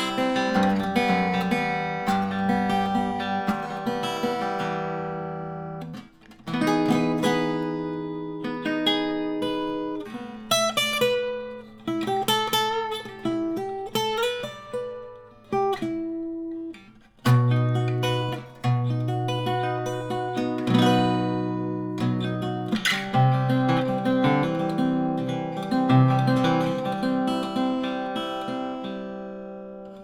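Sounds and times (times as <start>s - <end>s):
acoustic guitar chords: 0.0s - 30.0s
picked guitar notes: 0.0s - 30.0s.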